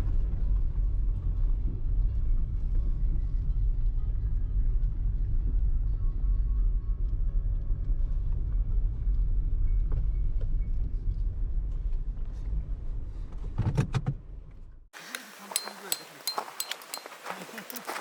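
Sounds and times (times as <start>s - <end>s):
vehicle rumbling: 0.0s - 18.0s.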